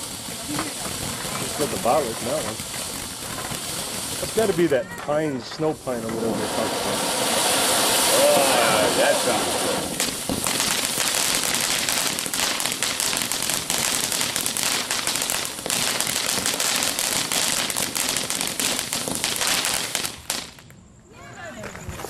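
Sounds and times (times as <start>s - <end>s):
firework crackling: 0.0s - 21.4s.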